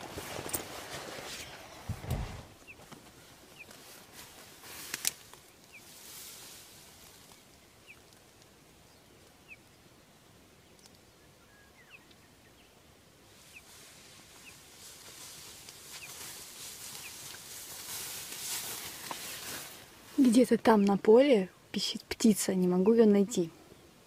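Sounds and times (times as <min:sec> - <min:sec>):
tall grass rustling: 0:00.0 - 0:11.7, 0:12.3 - 0:21.4.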